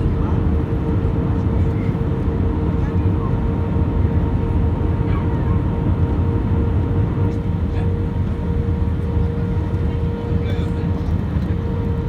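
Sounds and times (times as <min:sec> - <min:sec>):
constant engine tone: 0:00.0 - 0:12.0.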